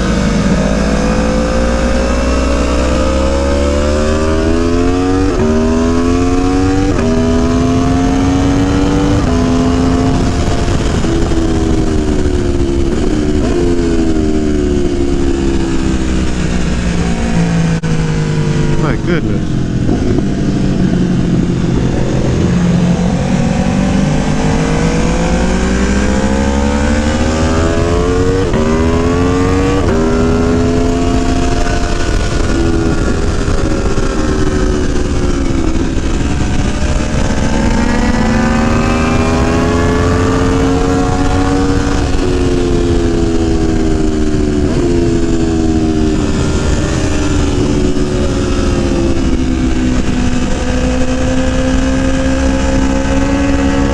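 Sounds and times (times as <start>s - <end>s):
heavy wind noise: 0.0s - 53.9s
motorcycle engine accelerating: 0.0s - 53.9s.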